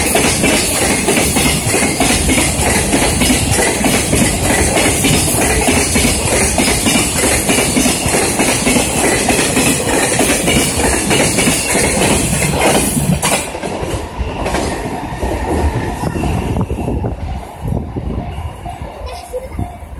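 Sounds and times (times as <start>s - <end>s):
freight train wheels on rails: 0.0s - 19.9s.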